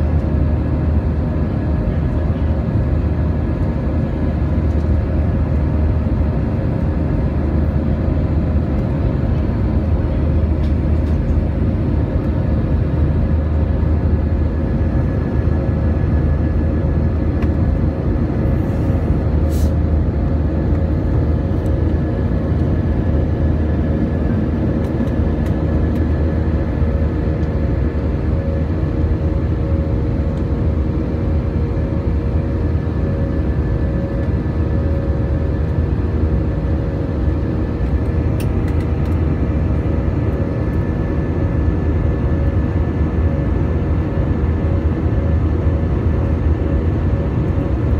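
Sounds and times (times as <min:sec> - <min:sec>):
jet engines rumbling: 0:00.0 - 0:47.9.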